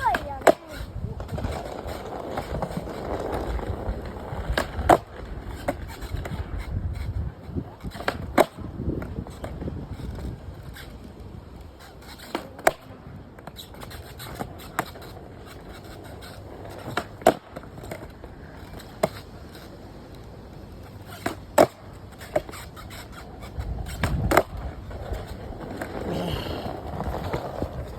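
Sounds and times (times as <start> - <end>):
skateboard clacks and knocks: 0.0 - 10.9, 11.6 - 27.9.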